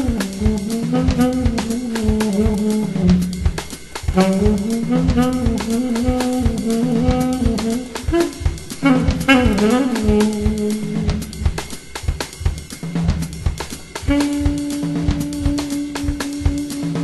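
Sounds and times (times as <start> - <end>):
drum kit beat: 0.0 - 17.0
saxophone melody: 0.0 - 17.0.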